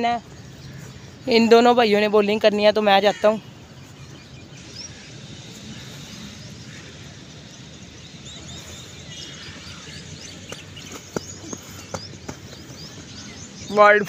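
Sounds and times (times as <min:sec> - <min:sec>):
open-air background noise: 0:00.0 - 0:14.0
small birds chirping: 0:00.0 - 0:14.0.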